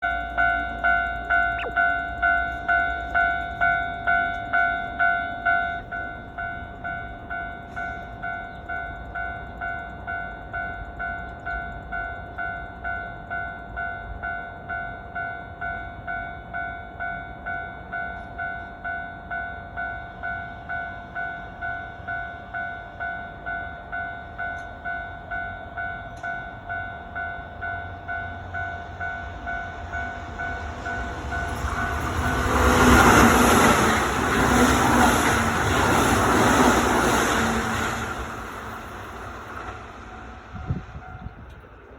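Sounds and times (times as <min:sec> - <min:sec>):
approaching train rumble: 0:00.0 - 0:41.9
level-crossing warning bell: 0:00.0 - 0:41.9.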